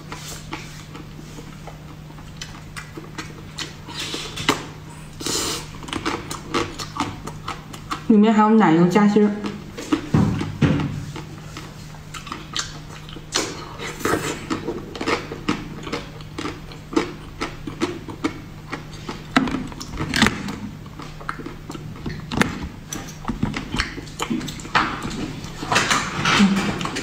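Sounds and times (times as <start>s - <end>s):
chewing and wet mouth sounds: 0.0s - 8.1s, 9.3s - 27.0s
faint steady hum: 0.0s - 27.0s.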